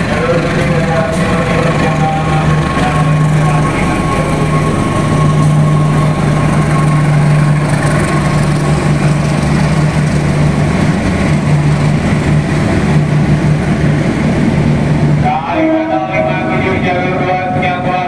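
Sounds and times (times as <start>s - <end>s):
constant high whine: 0.0s - 18.0s
locomotive diesel engine drone: 0.0s - 18.0s.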